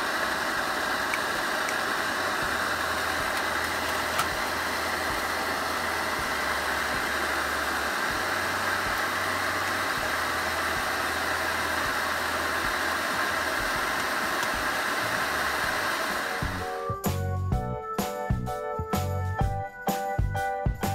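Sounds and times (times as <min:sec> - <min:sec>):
stove burning with rushing hiss: 0:00.0 - 0:16.9.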